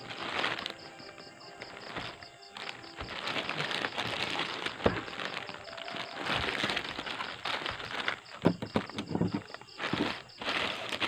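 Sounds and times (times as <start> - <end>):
plastic cracking: 0.0 - 11.0
plastic mailer crinkling: 0.0 - 11.0.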